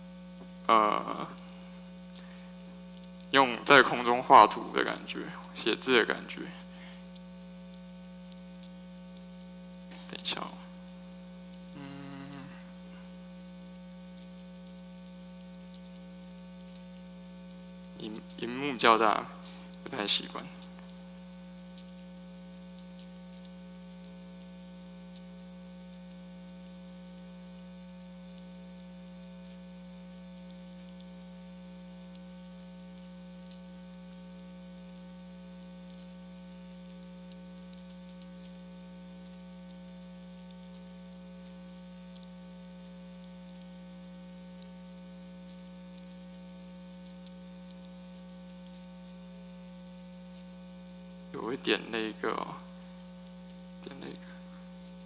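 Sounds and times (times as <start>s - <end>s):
electrical mains hum: 0.0s - 55.0s
faint ticks: 2.1s - 3.3s, 6.7s - 18.5s, 19.2s - 55.0s.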